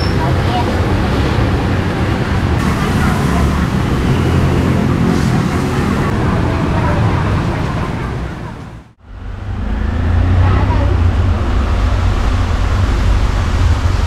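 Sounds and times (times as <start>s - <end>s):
voices: 0.0s - 11.6s
steady traffic noise: 0.0s - 14.0s.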